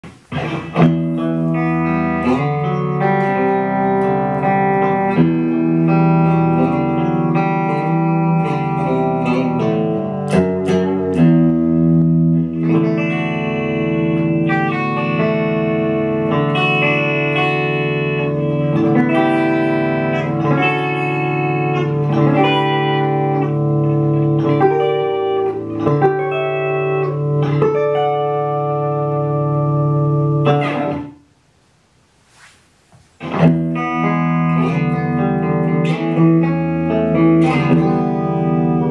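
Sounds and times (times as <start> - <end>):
electric guitar chords and arpeggios: 0.0 - 31.2, 33.2 - 38.9.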